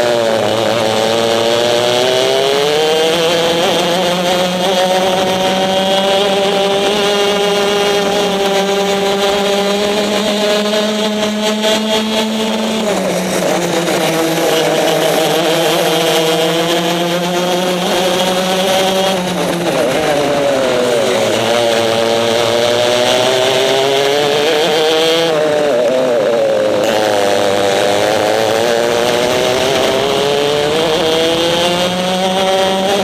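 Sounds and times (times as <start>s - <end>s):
racing kart engine: 0.0s - 33.0s.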